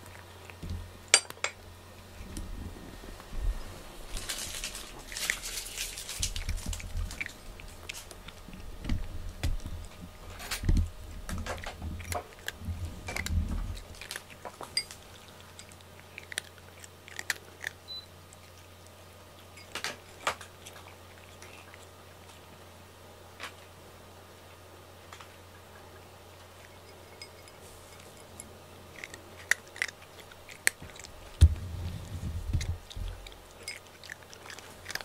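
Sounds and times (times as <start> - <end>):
cat crunching dry kibble: 0.0 - 23.8, 26.2 - 35.0.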